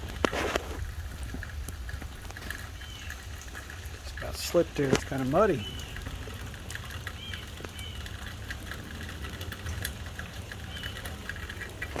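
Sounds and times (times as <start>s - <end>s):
rain pattering: 0.0s - 12.0s
water drips ticking: 0.0s - 12.0s.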